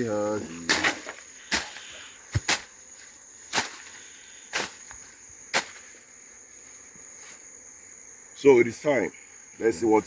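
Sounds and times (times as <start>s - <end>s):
high insect trill: 0.0s - 10.0s.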